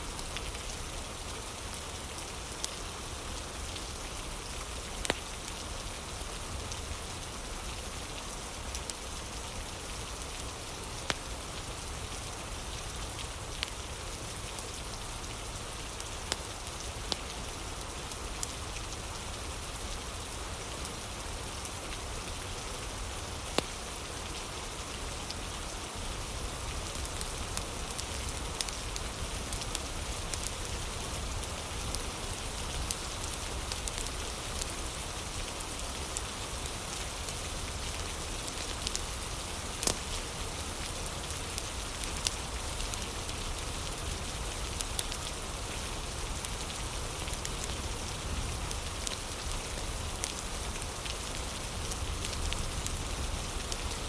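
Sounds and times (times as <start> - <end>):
steady rain: 0.0 - 54.0
wood fire crackling: 0.1 - 54.0.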